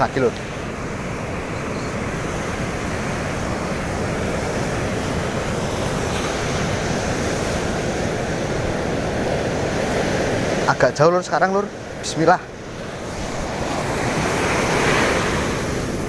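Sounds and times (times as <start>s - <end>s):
surf breaking on sand beach: 0.0s - 16.0s.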